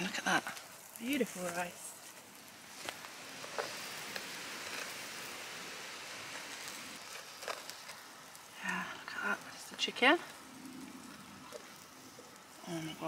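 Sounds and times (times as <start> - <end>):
kebabs sizzling on grill: 0.0 - 13.0
sharp crackles: 0.0 - 13.0.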